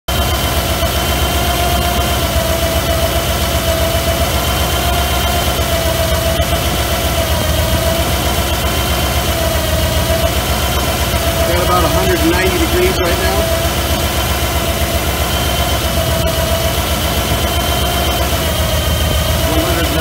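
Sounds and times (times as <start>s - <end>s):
engine idling with whine: 0.1s - 20.0s.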